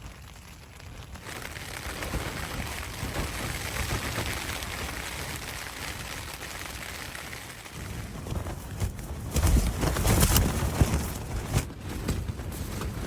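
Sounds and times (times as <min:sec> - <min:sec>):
gusting wind: 0:00.0 - 0:13.0
rain on a tent: 0:00.0 - 0:13.0.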